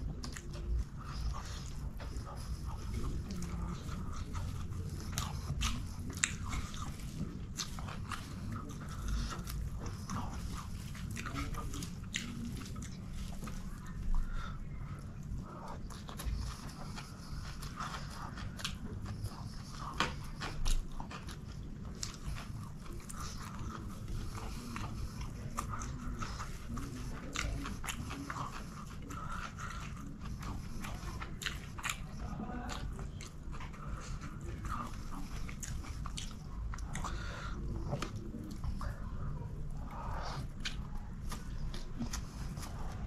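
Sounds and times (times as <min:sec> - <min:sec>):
man chewing with mouth clicks: 0:00.0 - 0:43.0
steady low hum: 0:00.0 - 0:43.0.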